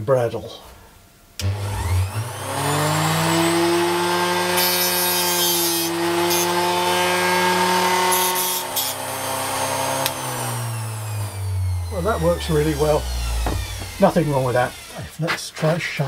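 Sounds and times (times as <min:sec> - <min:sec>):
bench grinder motor running: 0:01.4 - 0:15.2.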